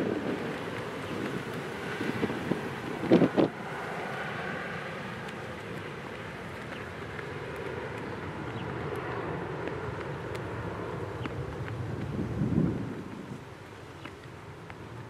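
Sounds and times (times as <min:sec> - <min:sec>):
distant jet engine noise: 0:00.0 - 0:15.0.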